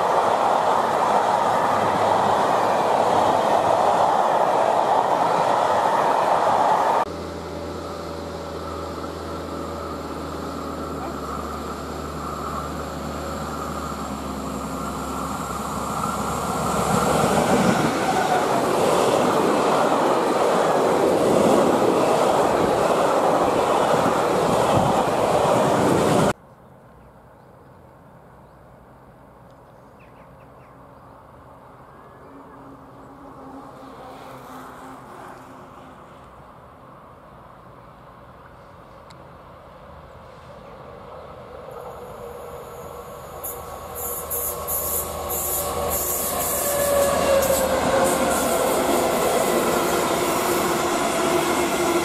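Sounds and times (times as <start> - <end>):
train passing with wheel noise: 0.0 - 52.0.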